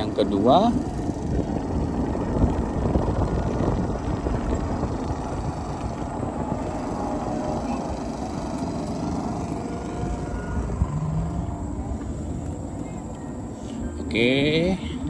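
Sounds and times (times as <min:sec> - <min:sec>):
wind buffeting microphone: 0:00.0 - 0:15.0
tyre noise on asphalt: 0:00.8 - 0:15.0.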